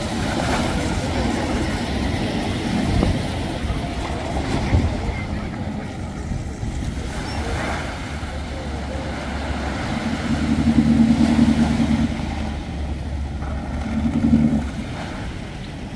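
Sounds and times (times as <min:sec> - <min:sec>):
outboard motor running: 0:00.0 - 0:15.9
small waves washing: 0:00.0 - 0:15.9.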